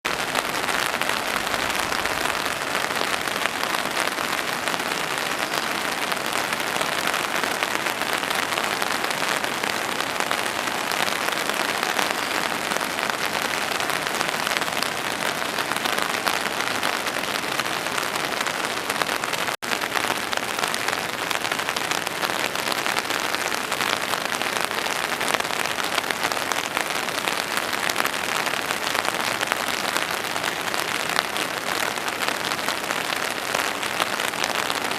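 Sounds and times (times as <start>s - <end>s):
heavy rain on hard surfaces: 0.0s - 34.9s.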